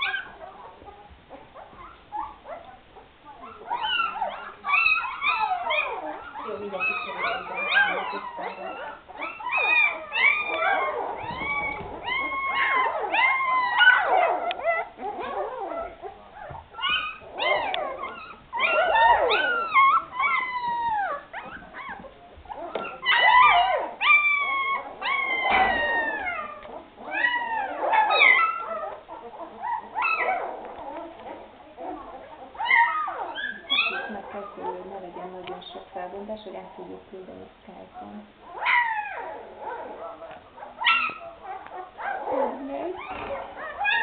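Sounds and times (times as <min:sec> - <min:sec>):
puppies whining and squealing: 0:00.0 - 0:37.3, 0:37.9 - 0:44.0.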